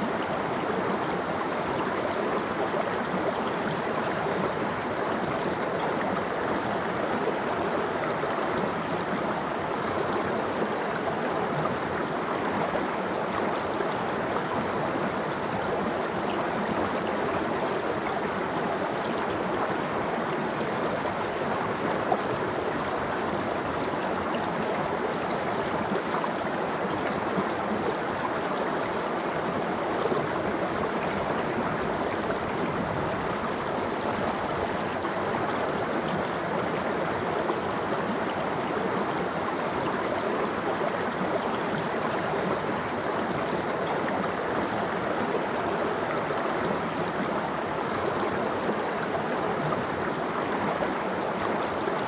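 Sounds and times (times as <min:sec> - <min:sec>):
stream splashing over rocks: 0:00.0 - 0:52.0.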